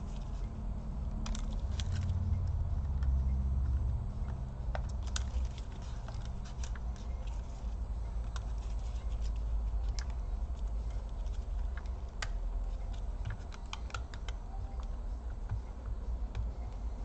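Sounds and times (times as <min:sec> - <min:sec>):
laptop parts clicking and tapping: 0:00.0 - 0:17.0
steady low hum: 0:00.0 - 0:17.0.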